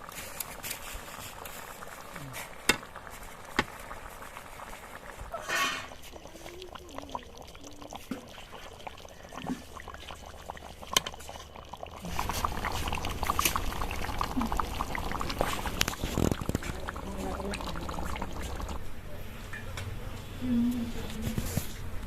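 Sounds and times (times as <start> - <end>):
liquid pouring: 0.0 - 18.9.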